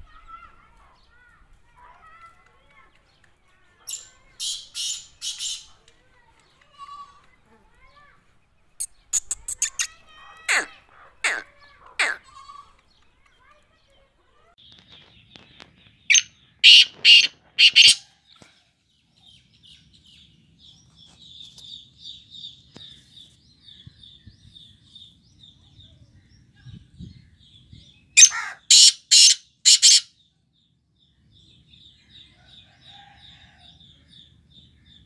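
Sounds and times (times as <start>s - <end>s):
birds calling harsh notes: 0.0s - 18.2s, 19.2s - 30.3s.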